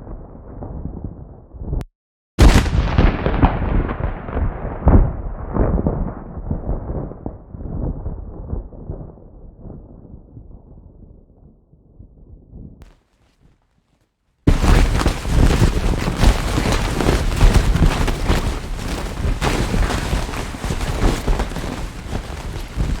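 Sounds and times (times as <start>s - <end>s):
synthetic thunder rumble with crackles: 0.0s - 1.8s, 2.4s - 12.8s, 14.5s - 23.0s.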